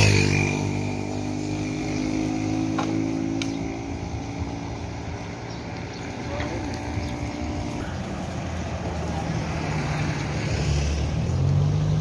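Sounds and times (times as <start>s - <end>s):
vehicle engine driving away: 0.0s - 12.0s.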